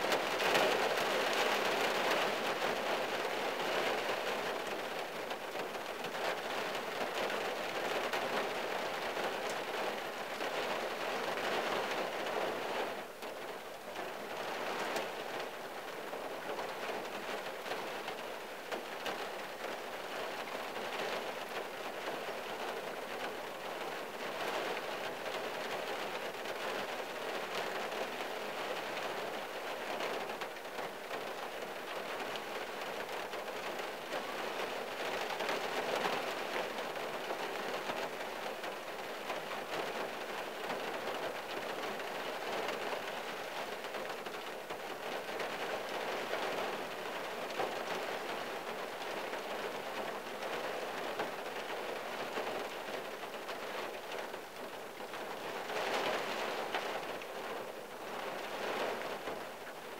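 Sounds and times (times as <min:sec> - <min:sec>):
rain on car roof: 0:00.0 - 0:59.9.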